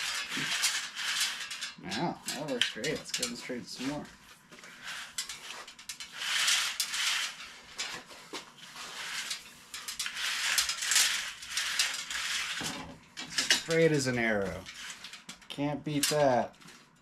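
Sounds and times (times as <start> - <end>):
metal tube scraping and rattling: 0.0 - 17.0.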